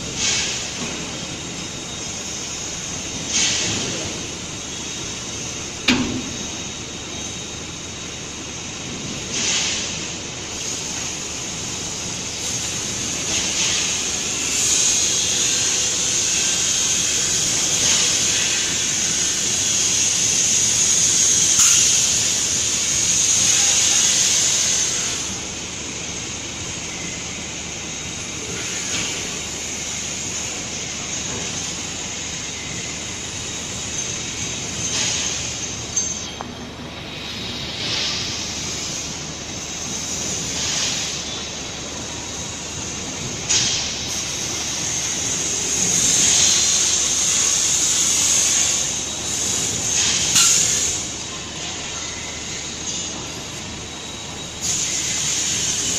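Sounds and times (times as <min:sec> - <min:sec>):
machinery hissing: 0:00.0 - 0:55.9.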